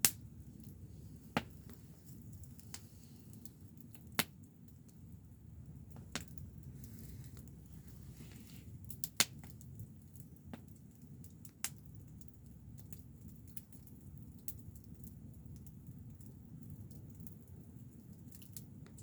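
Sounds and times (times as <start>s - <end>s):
low steady rumble: 0.0s - 18.9s
fire popping: 0.0s - 19.0s
wood fire crackling: 0.0s - 19.0s.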